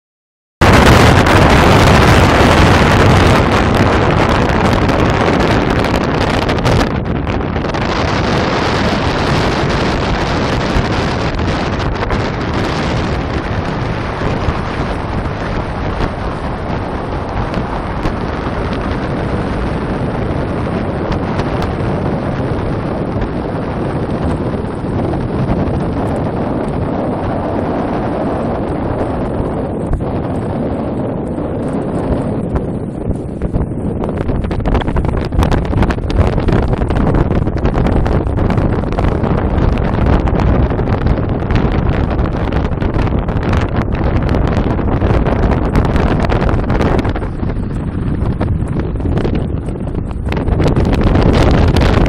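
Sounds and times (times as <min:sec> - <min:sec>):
wind buffeting microphone: 0:00.6 - 0:52.0.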